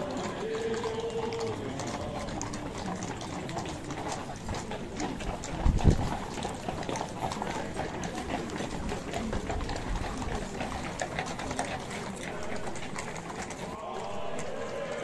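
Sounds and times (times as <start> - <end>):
crowd murmur: 0.0 - 15.0
horse hooves clopping on cobblestones: 0.0 - 15.0.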